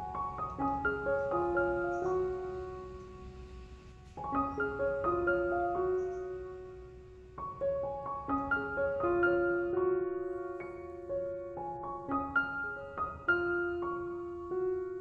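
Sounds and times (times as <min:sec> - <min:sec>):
gentle melody of struck notes: 0:00.0 - 0:15.0.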